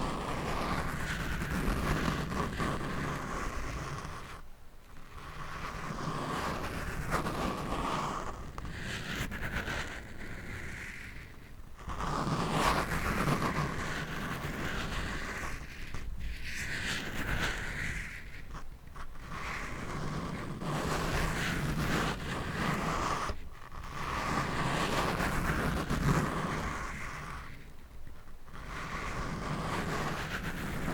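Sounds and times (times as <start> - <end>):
scratching on microphone: 0.0 - 30.9.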